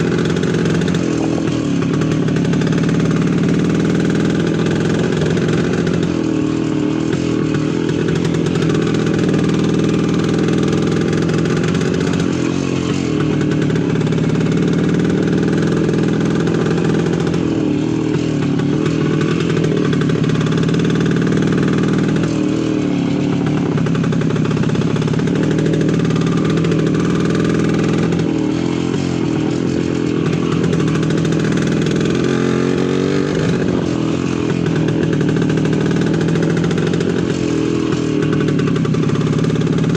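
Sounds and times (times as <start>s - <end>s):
motorcycle two-stroke engine running: 0.0s - 39.9s.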